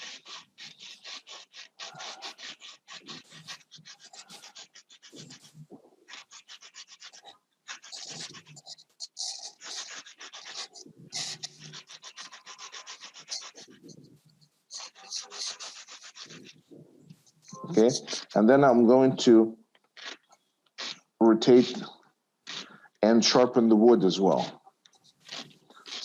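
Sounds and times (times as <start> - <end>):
pencil scratching on sandpaper: 0.0 - 18.8, 20.0 - 23.4, 24.2 - 26.0.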